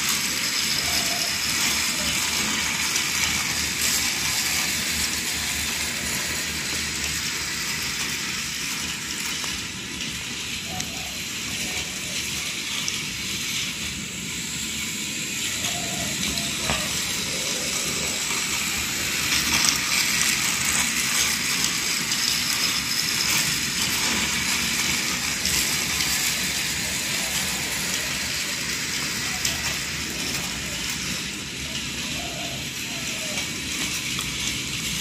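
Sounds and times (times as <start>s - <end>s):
toy train motor whirring: 0.0s - 35.0s.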